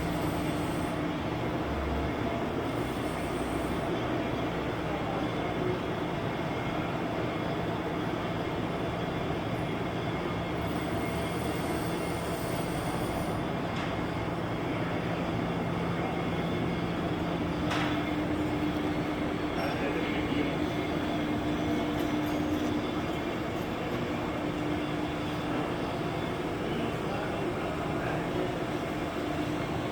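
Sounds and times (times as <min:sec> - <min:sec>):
lathe humming and rattling: 0:00.0 - 0:29.9.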